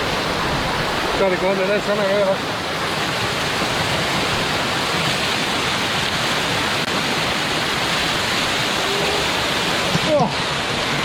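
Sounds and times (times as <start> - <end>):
waterfall pouring: 0.0 - 11.0.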